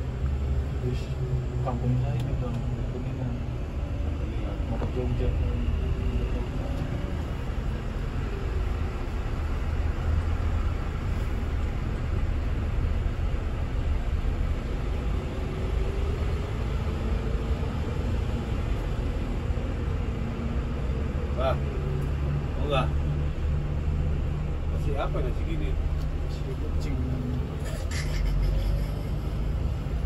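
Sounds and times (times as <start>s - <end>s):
coach engine and road drone: 0.0s - 30.0s.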